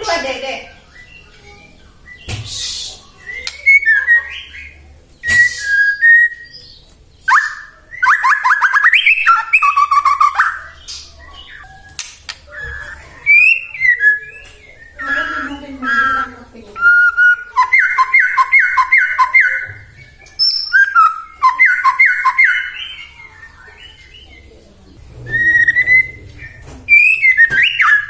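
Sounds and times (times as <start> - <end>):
bird singing whistled phrases: 0.6 - 24.5, 25.3 - 28.0.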